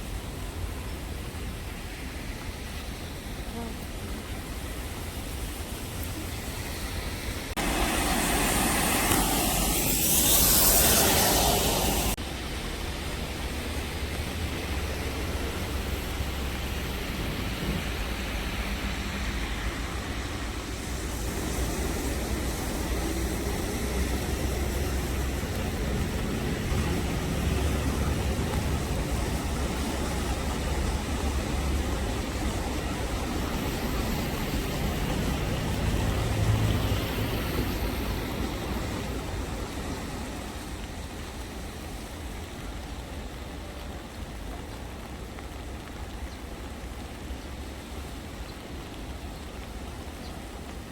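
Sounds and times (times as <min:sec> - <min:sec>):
rain hiss: 0:00.0 - 0:50.9
traffic rumble: 0:00.0 - 0:50.9.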